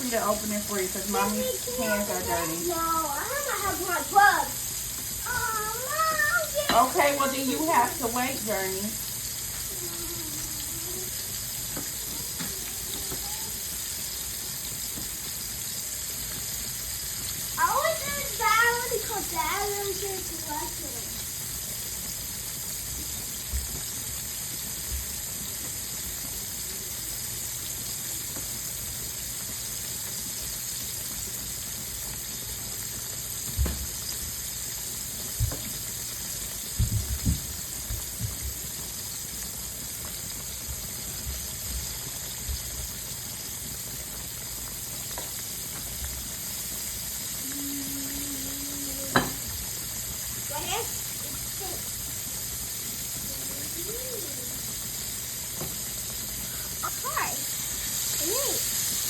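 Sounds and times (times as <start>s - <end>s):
potatoes sizzling in hot oil: 0.0s - 59.0s.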